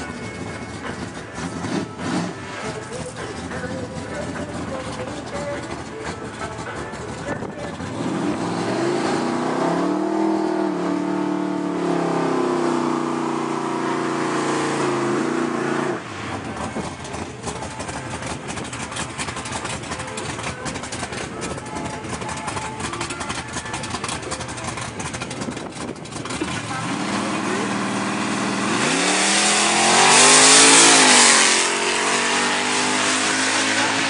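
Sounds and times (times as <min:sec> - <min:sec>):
car engine revving: 0:00.0 - 0:34.0
rough crackling engine running: 0:00.0 - 0:34.0.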